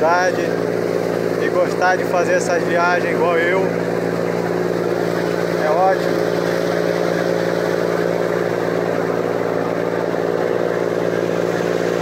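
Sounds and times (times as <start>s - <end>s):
boat engine droning: 0.0s - 12.0s
water rushing along hull: 0.0s - 12.0s.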